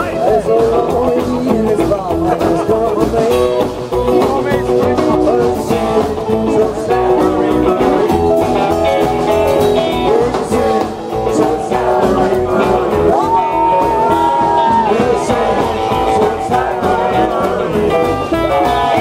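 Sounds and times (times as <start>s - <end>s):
electric guitar: 0.0s - 19.0s
plucked upright bass: 0.0s - 19.0s.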